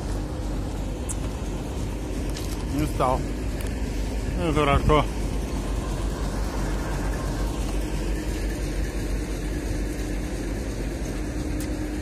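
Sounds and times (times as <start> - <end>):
diesel locomotive idling: 0.0 - 12.0.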